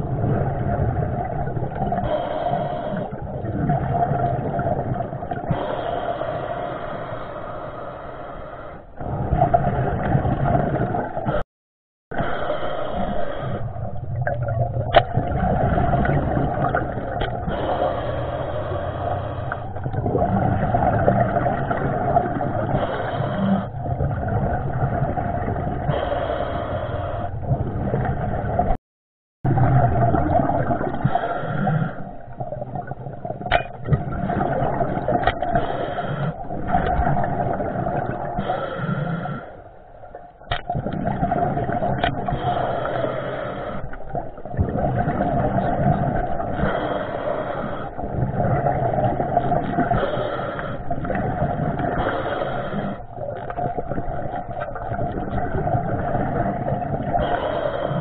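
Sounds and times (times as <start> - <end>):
muffled underwater rumbling hiss: 0.0 - 11.4, 12.1 - 28.7, 29.5 - 58.0.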